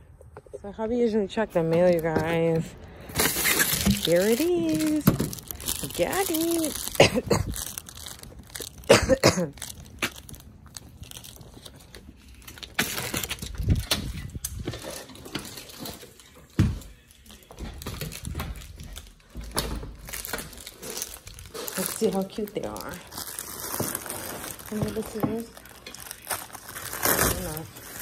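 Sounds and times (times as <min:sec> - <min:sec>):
handling noise: 0:01.5 - 0:26.6.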